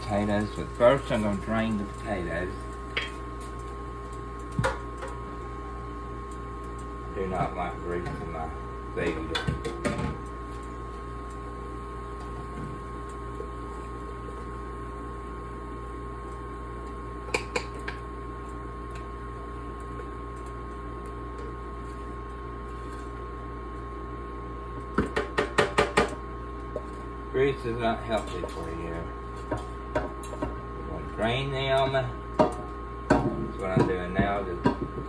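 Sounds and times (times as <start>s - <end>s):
kitchen hum: 0.0s - 35.0s.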